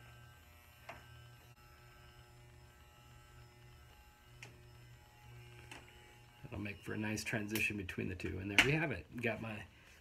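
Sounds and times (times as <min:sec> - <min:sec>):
electric hair clipper humming: 0:00.0 - 0:09.3.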